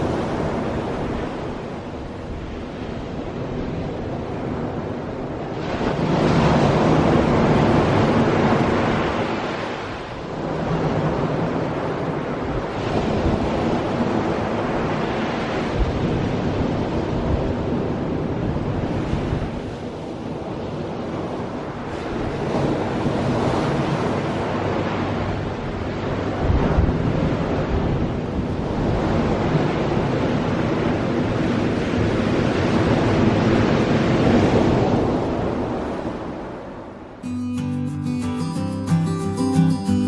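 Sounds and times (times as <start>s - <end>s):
ocean surf on shore: 0.0s - 40.0s.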